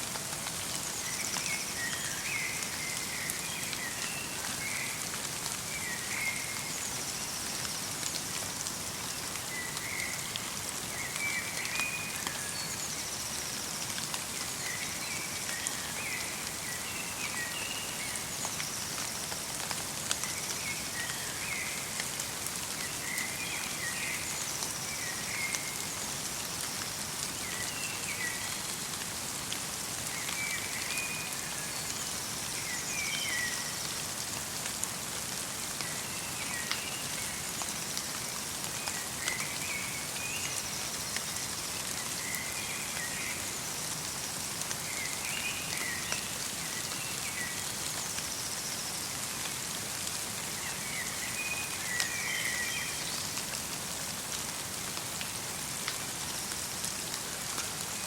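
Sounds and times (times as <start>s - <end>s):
light rain in forest: 0.0s - 58.0s.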